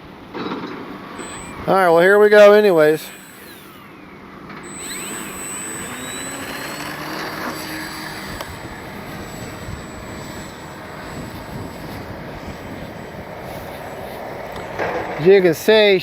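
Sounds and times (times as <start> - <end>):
electric motor and propeller whine: 0.8 - 16.0.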